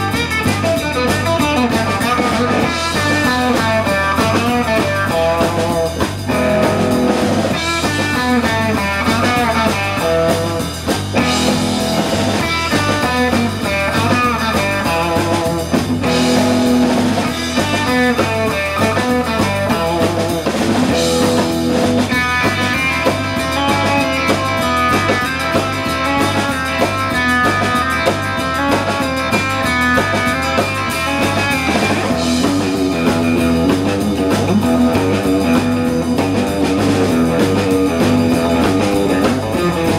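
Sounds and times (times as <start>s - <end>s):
blues-rock band playing: 0.0s - 39.9s
drum kit: 0.0s - 39.9s
electric guitar: 0.0s - 39.9s.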